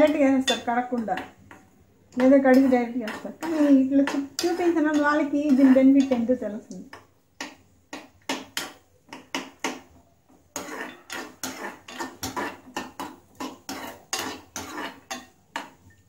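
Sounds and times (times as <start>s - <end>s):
spoon scraping steel pan: 0.0s - 16.0s.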